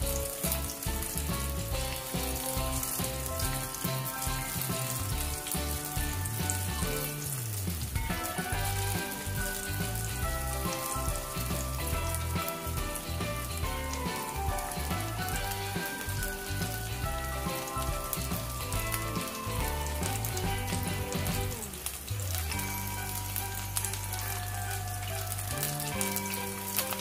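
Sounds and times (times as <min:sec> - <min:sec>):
background music: 0:00.0 - 0:27.0
vegetables deep-frying in oil: 0:00.0 - 0:27.0.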